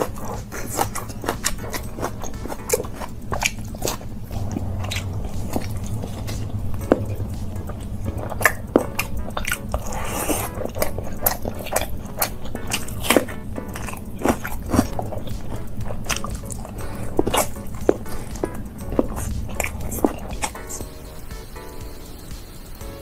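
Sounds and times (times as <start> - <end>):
wet chewing and lip-smacking: 0.0 - 21.4
mouth clicks: 0.0 - 21.8.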